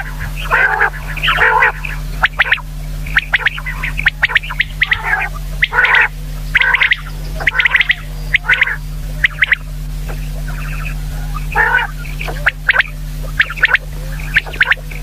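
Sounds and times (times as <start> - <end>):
quail calling: 0.0 - 15.0
steady low hum: 0.0 - 15.0.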